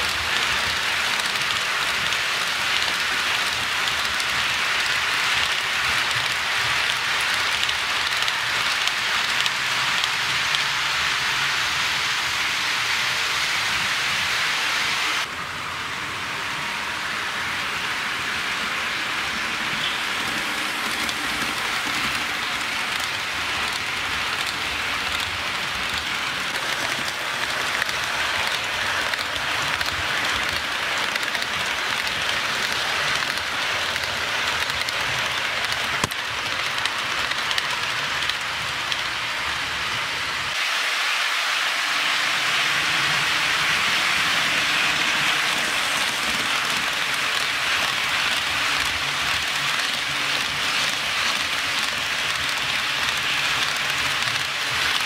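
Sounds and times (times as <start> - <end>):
model train wheels rattling on rail: 0.0 - 13.8, 18.6 - 55.0.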